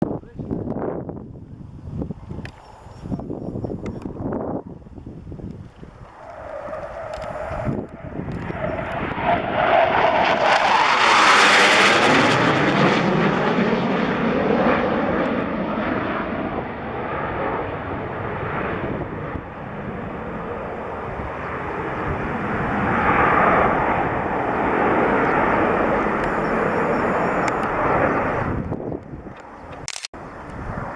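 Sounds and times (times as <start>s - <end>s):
jet flypast roar: 2.0s - 30.9s.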